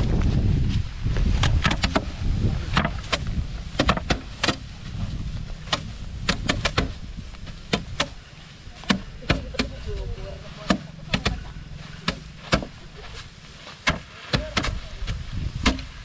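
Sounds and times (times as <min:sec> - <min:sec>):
wind rumble on microphone: 0:00.0 - 0:13.7, 0:14.5 - 0:16.0
rice sheaves whacking wooden boards: 0:01.3 - 0:16.0.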